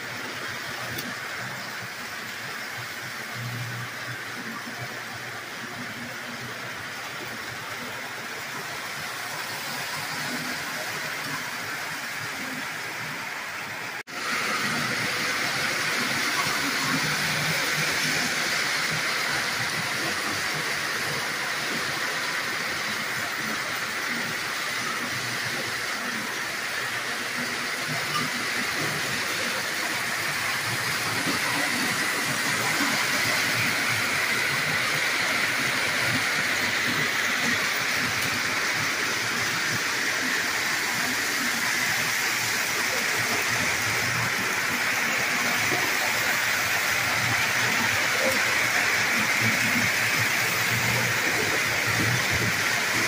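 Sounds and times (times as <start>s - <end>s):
model trains rumbling on track: 0.0s - 53.0s.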